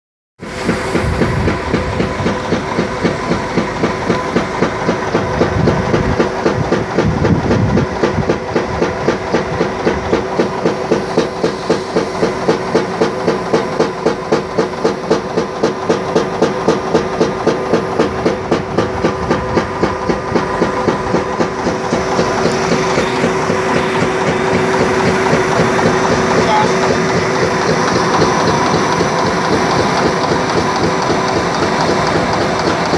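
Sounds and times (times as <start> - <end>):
press rhythmic beat: 0.9 - 32.9.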